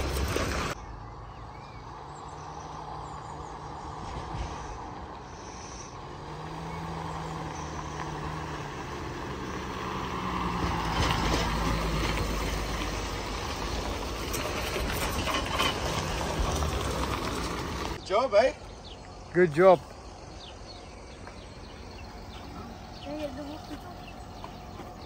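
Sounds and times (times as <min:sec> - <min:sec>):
tyre and road noise: 0:00.0 - 0:25.0
vehicle engine hum: 0:00.0 - 0:25.0.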